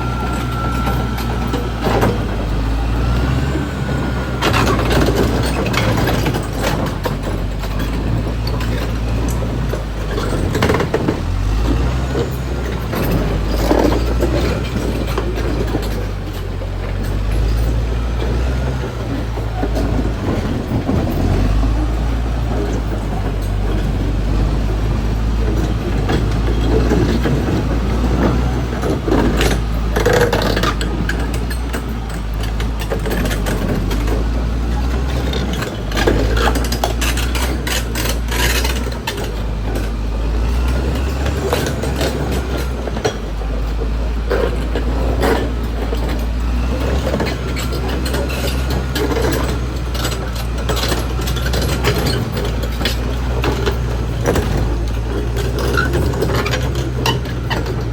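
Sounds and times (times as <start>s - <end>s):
bulldozer diesel engine droning: 0.0s - 57.9s
clanks and rattles: 0.0s - 57.9s.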